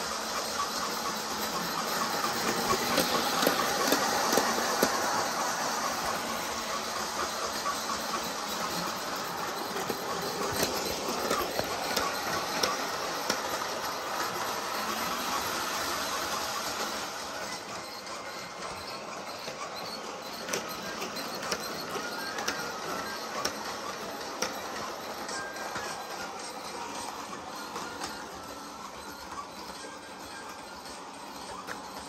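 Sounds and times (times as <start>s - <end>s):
model train motor and gears: 0.0s - 32.0s.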